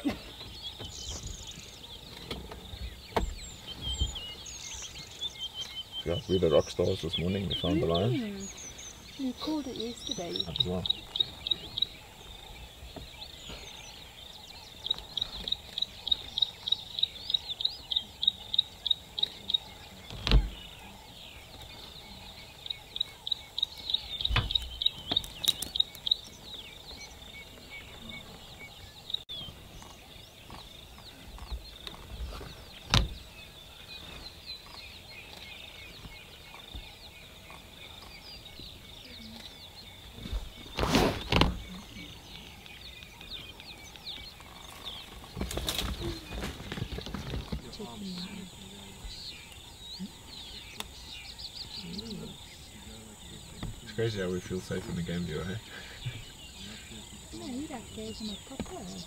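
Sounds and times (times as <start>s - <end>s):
faint bush background: 0.0s - 59.0s.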